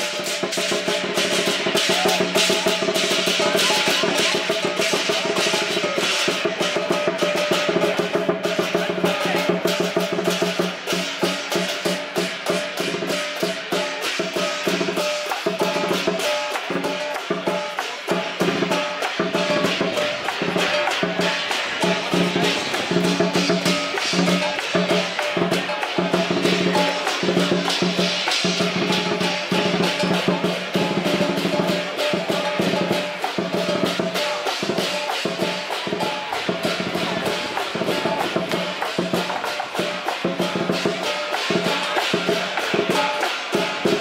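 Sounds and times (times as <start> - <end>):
big drum beaten fast: 0.0 - 44.0
clashing cymbals: 0.0 - 44.0.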